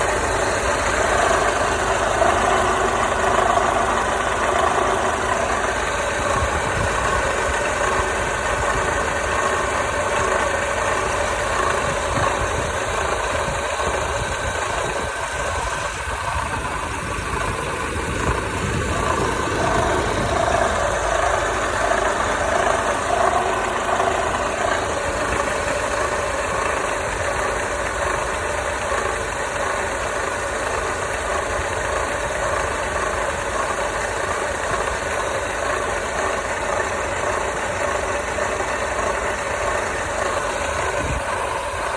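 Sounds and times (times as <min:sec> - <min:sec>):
car engine idling: 0:00.0 - 0:41.9
knocking scraping engine noise: 0:00.0 - 0:41.9.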